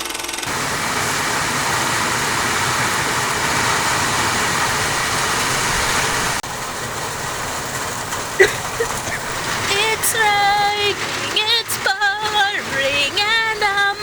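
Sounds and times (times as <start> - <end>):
heavy rain falling: 0.5 - 14.0.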